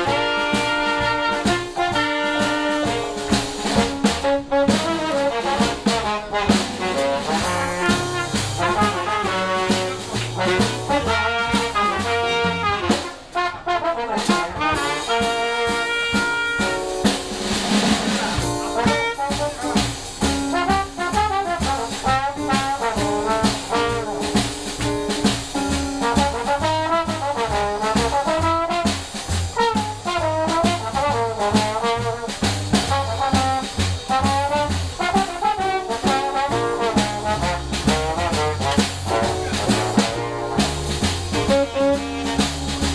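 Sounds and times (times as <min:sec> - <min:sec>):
drums: 0:00.0 - 0:42.9
horns: 0:00.0 - 0:42.9
live jazz band playing: 0:00.0 - 0:42.9
walking bass line: 0:00.0 - 0:42.9.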